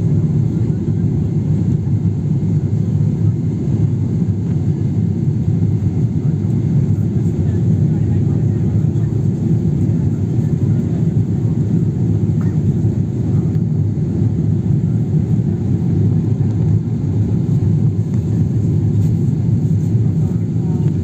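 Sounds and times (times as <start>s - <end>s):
jet engine rumble in cabin: 0.0s - 21.0s.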